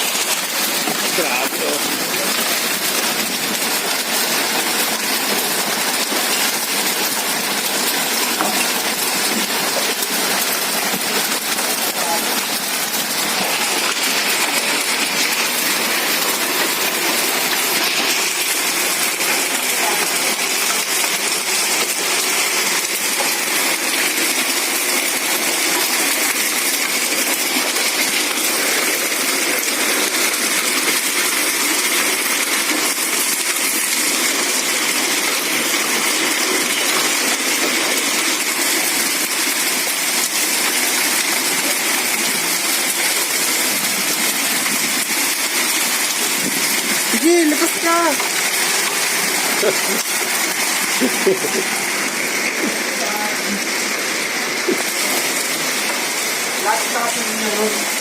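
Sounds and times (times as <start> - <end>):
hail and rain pelting: 0.0 - 58.0.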